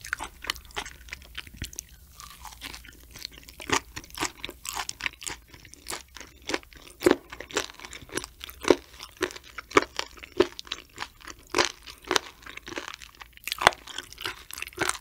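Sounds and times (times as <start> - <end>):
wet crunchy chewing: 0.0 - 15.0.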